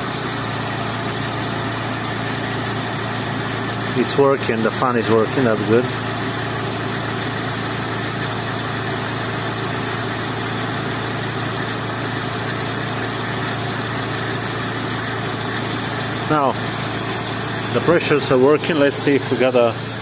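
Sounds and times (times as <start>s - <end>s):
car engine idling: 0.0s - 20.0s
cooling fan whirring: 0.0s - 20.0s.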